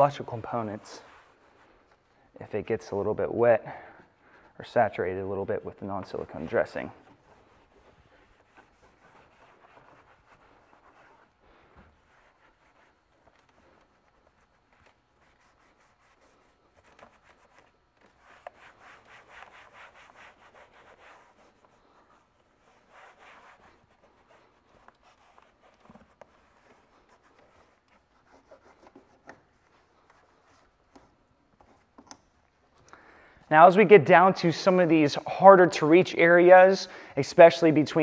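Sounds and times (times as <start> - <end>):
towel wiping plastic: 0.0 - 32.7.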